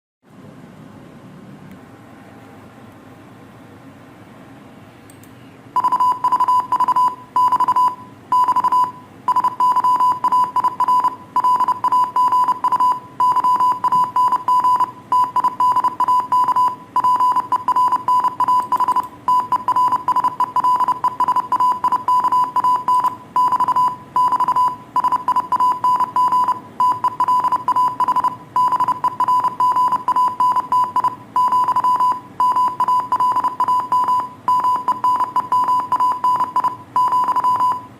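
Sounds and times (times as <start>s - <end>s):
morse code beeps: 5.8s - 37.9s.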